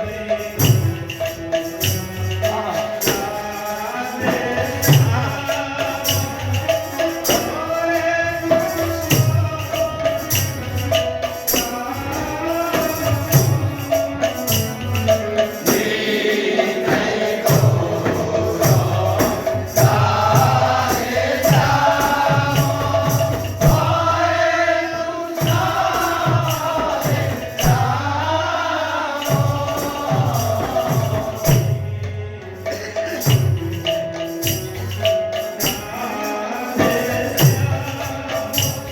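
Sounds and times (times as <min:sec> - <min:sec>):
voices singing: 0:00.0 - 0:34.3, 0:35.3 - 0:38.9
jingling hand percussion: 0:00.0 - 0:38.9
regular drum beat: 0:00.0 - 0:38.9.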